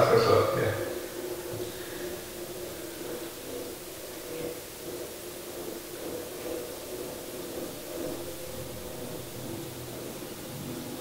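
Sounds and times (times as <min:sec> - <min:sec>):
constant hiss: 0:00.0 - 0:11.0
motor humming: 0:00.0 - 0:11.0.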